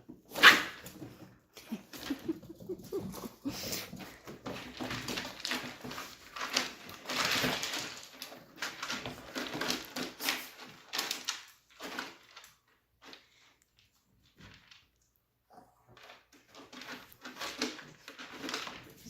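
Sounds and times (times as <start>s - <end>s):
small dogs scuffling: 0.0s - 13.2s, 15.9s - 19.0s.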